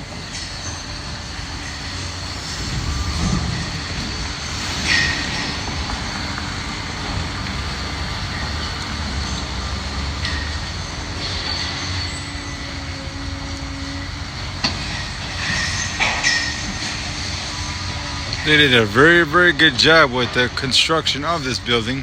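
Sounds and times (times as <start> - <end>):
demolition machinery rumbling: 0.0 - 22.0
metal squealing: 0.0 - 22.0.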